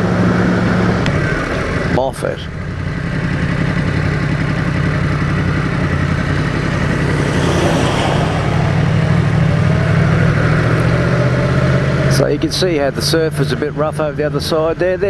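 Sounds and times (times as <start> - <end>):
road and wind noise: 0.0 - 15.0
motorcycle engine cruising: 0.1 - 12.6.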